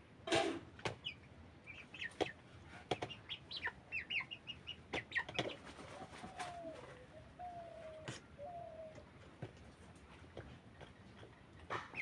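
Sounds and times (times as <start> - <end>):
chickens peeping: 0.7 - 12.0.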